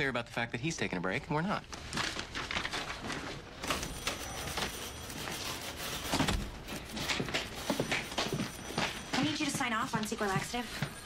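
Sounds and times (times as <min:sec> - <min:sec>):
footsteps: 0:01.7 - 0:11.0.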